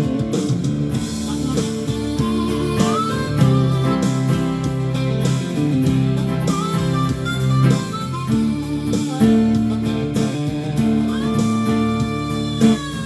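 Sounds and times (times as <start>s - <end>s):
instrumental guitar music: 0.0s - 13.0s.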